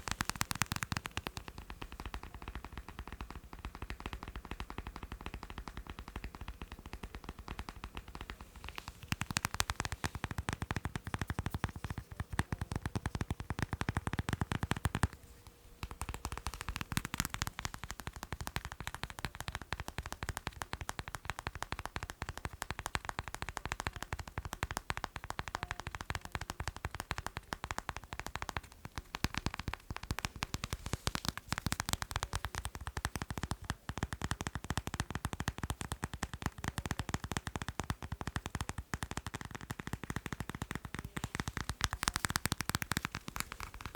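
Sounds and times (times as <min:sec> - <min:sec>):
rapid tapping on macarons: 0:00.0 - 0:43.9.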